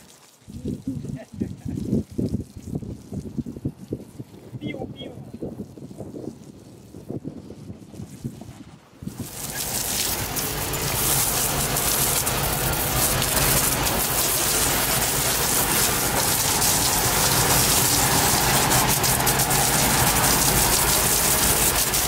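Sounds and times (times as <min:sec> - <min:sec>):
hose water splashing on deck: 0:00.0 - 0:22.0.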